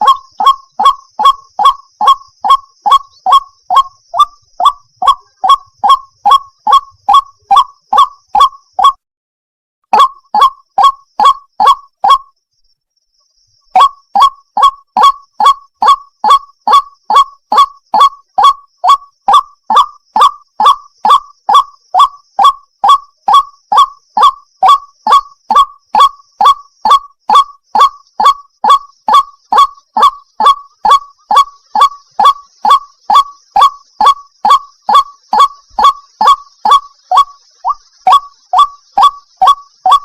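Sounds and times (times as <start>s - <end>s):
waterhen calling: 0.0s - 9.0s, 9.9s - 12.2s, 13.8s - 40.0s.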